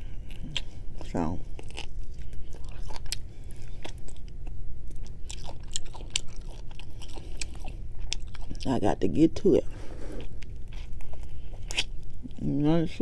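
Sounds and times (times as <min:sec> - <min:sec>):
person chewing food: 0:00.0 - 0:09.0, 0:09.6 - 0:12.5.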